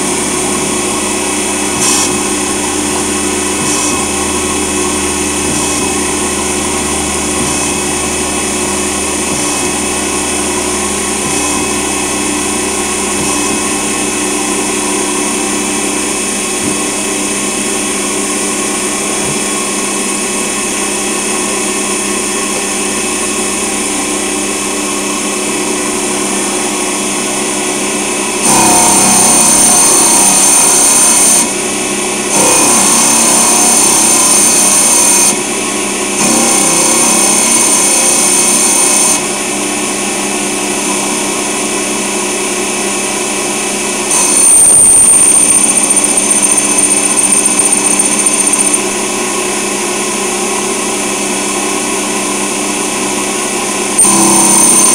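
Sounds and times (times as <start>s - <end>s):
high whine: 0.0s - 40.0s, 43.4s - 51.1s, 53.4s - 54.9s
lathe cutting metal: 0.0s - 54.9s
lathe machine hum: 0.0s - 54.9s.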